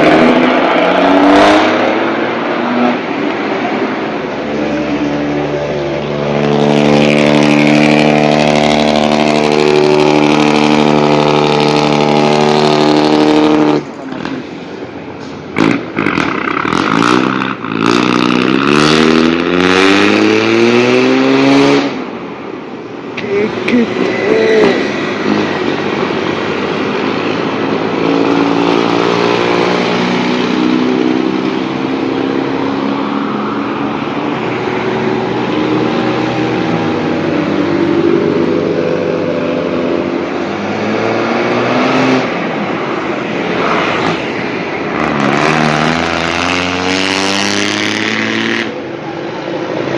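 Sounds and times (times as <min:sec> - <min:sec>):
diesel bus engine revving: 0:00.0 - 0:22.1, 0:23.7 - 0:48.9.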